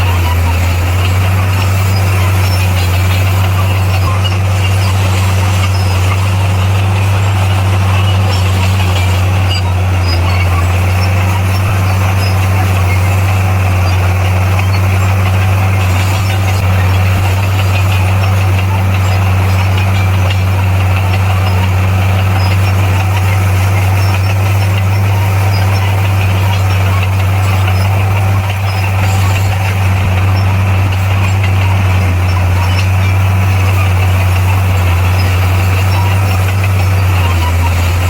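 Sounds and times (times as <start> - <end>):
bulldozer diesel engine drone: 0.0 - 38.0.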